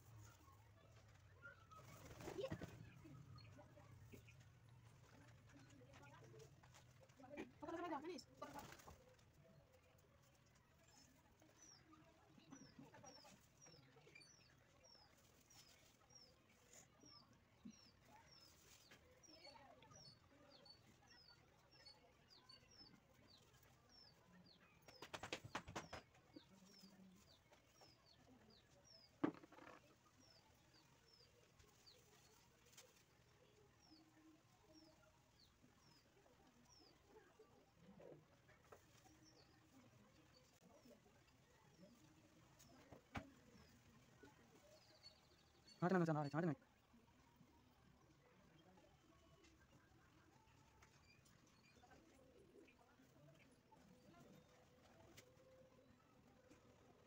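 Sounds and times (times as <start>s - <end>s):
faint bird chirping: 0.0s - 57.0s.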